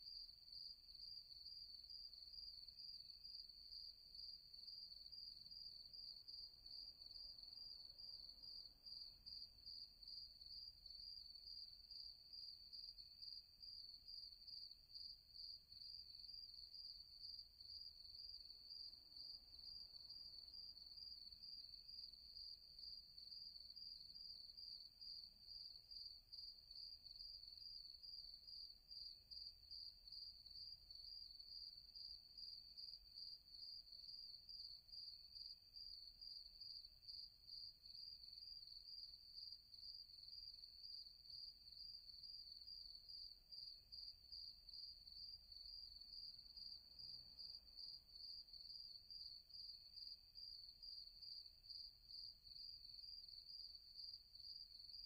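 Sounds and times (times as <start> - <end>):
crickets chirping: 0.1 - 55.0.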